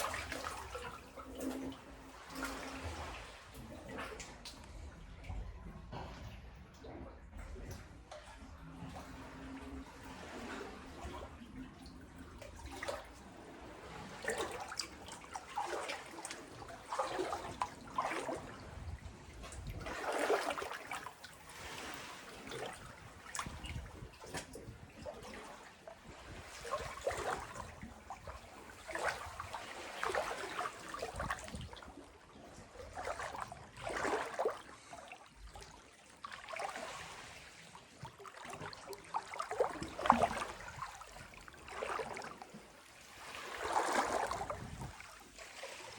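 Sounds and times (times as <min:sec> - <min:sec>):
sea water lapping and splashing: 0:00.0 - 0:45.9.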